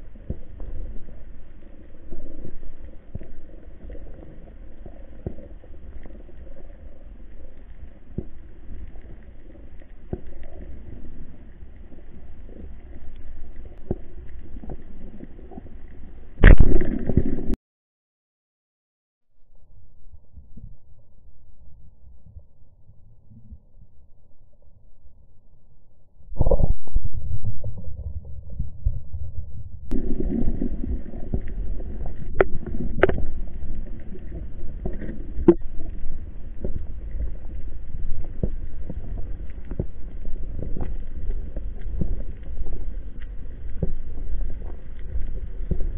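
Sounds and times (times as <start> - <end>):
faint underwater clicks and crackles: 0.0 - 17.6, 19.5 - 45.9
water rumbling against camera: 0.0 - 17.6, 26.2 - 45.9.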